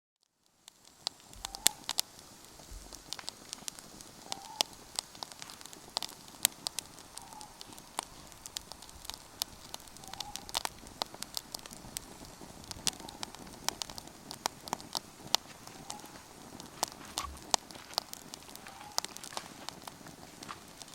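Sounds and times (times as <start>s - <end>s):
campfire crackling: 0.2s - 20.9s.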